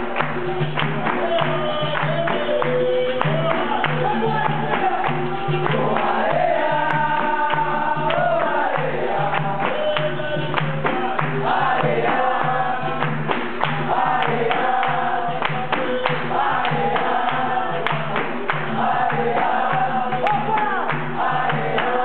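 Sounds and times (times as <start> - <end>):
berimbau rhythm: 0.0 - 22.0
handclaps: 0.0 - 22.0
men singing in chorus: 0.5 - 22.0.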